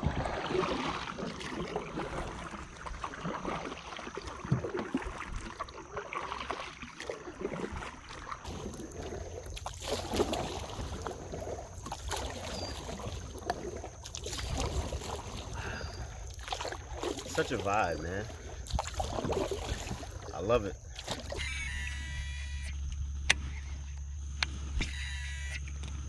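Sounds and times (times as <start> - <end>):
paddle strokes splashing: 0.0 - 22.3
water moving along hull: 0.0 - 26.0.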